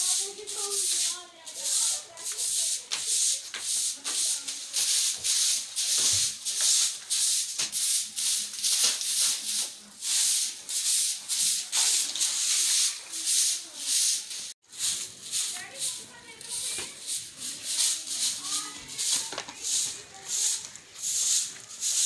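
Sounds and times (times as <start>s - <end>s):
broom sweeping cement floor: 0.0s - 22.0s.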